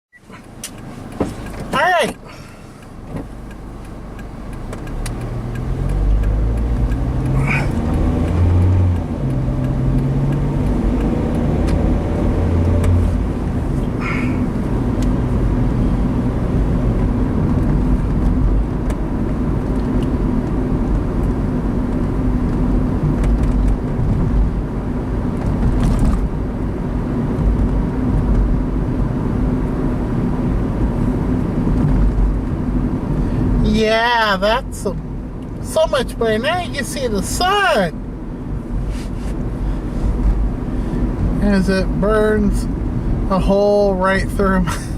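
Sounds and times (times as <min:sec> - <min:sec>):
car engine driving: 0:00.1 - 0:44.9
road noise: 0:00.1 - 0:44.9.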